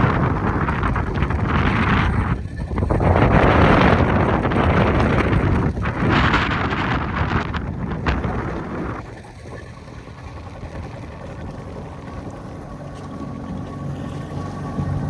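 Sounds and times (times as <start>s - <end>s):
water rushing past boat: 0.0s - 15.0s
wind buffeting microphone: 0.0s - 15.0s.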